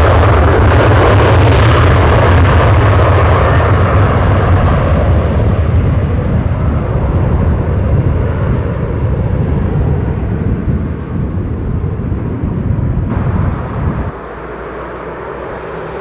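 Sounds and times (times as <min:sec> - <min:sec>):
aircraft engine rumble: 0:00.0 - 0:16.0.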